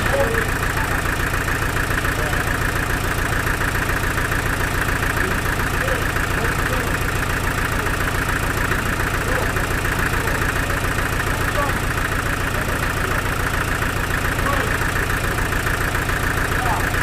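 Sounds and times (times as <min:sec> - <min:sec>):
high machine whine: 0:00.0 - 0:17.0
sawmill engine drone: 0:00.0 - 0:17.0.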